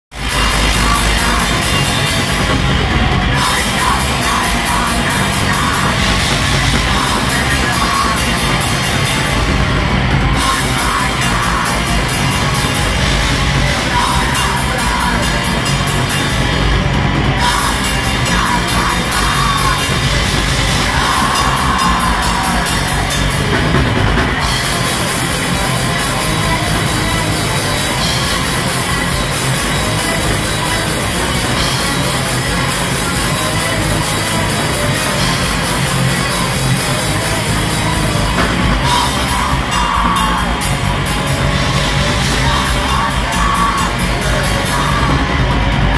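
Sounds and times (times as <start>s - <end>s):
bass guitar: 0.0s - 45.9s
distorted electric guitars: 0.0s - 45.9s
fast drumming with cymbals: 0.1s - 45.9s
harsh screamed vocal: 0.2s - 45.9s.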